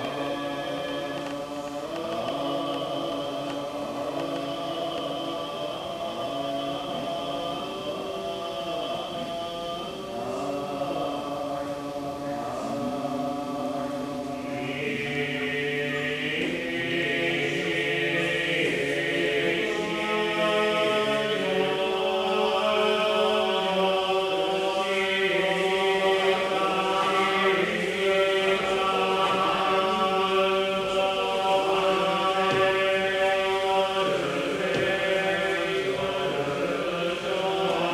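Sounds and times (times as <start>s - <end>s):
group chanting in long tones: 0.0s - 37.9s.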